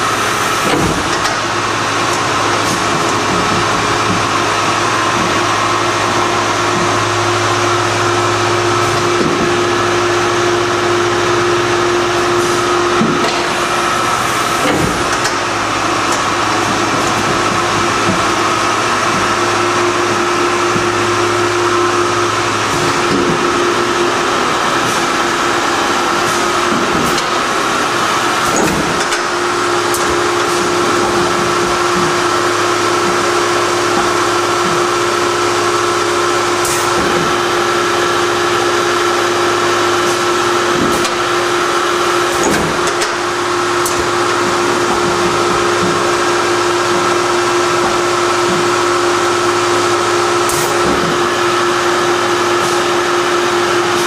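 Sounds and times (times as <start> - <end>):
industrial machinery humming: 0.0 - 54.0.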